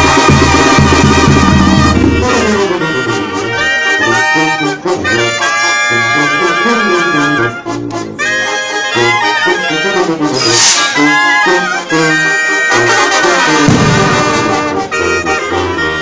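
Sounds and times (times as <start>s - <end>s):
brass band playing live: 0.0s - 16.0s
clarinets and trombones melody: 0.0s - 16.0s.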